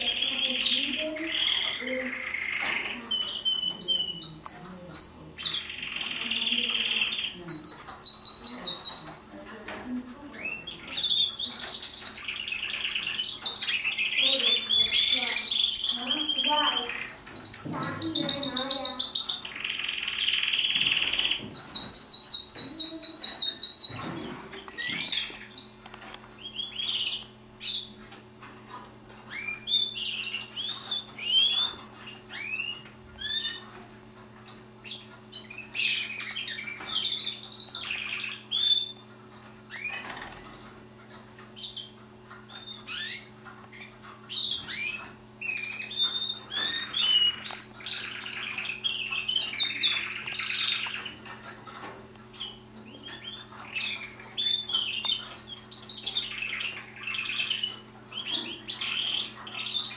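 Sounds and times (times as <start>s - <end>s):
birds chirping and calling: 0.0s - 59.9s
canary singing a rolling trill: 0.0s - 59.9s.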